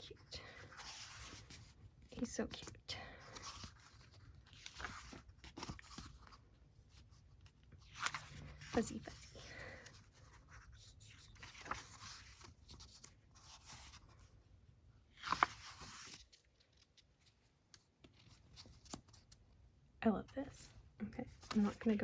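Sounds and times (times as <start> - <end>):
paper pages rustling: 0.2 - 14.3, 15.1 - 19.4, 21.3 - 22.0.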